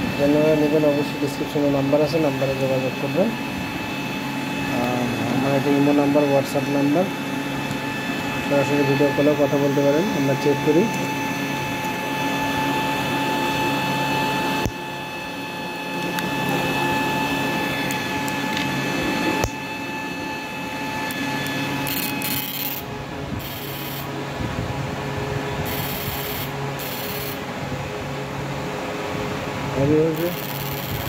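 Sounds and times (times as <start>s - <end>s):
cooling fan hum: 0.0s - 31.0s
high-pitched electrical whine: 0.0s - 31.0s.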